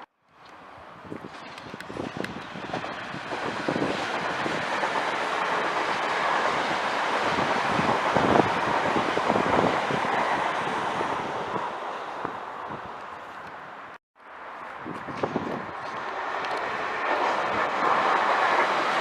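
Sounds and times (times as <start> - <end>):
train wheels rumbling on rails: 0.0 - 19.0
sharp knocks of train wheels: 1.2 - 12.4, 14.9 - 19.0.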